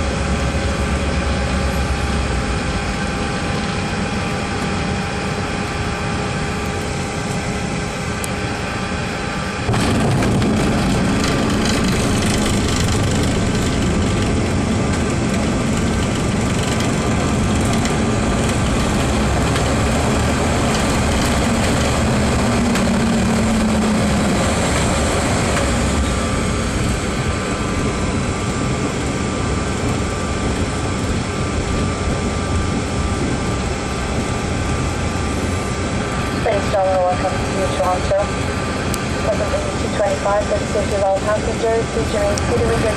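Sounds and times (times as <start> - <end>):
jet engine rushing: 0.0 - 42.9
low runway rumble: 0.0 - 42.9.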